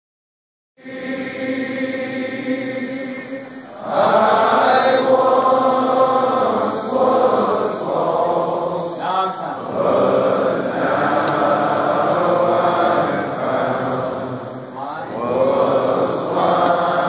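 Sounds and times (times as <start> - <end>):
crowd of men singing: 0.8 - 17.0.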